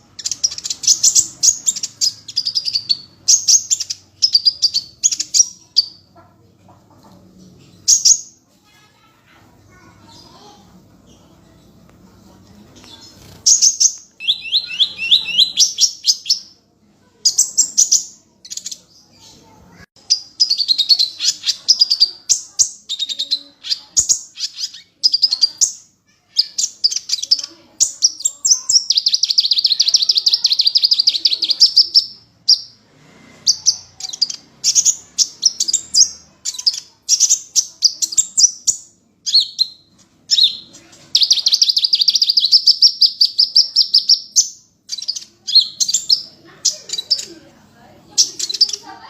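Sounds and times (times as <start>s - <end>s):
songbird singing: 0.0s - 6.4s, 12.8s - 32.8s, 33.4s - 49.0s.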